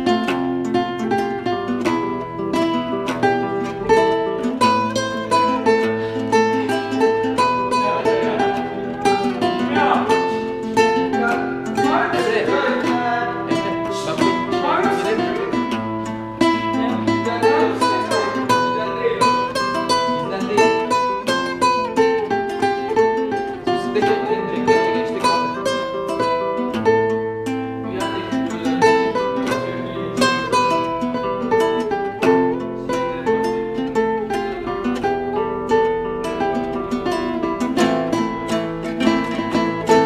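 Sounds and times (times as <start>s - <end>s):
plucked string instrument melody: 0.0s - 40.0s.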